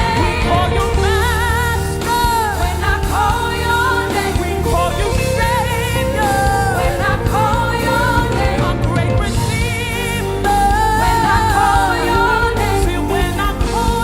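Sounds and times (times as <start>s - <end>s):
gospel band playing: 0.0s - 14.0s
singer with vibrato: 0.0s - 14.0s.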